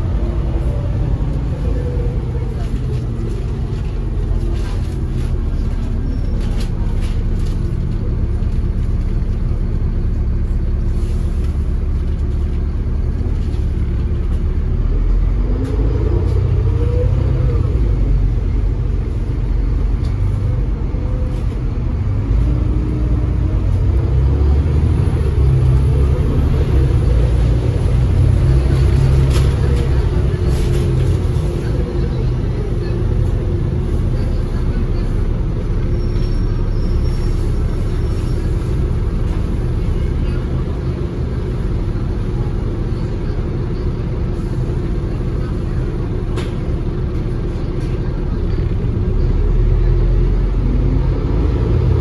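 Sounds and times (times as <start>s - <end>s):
bus engine and road rumble: 0.0s - 52.0s.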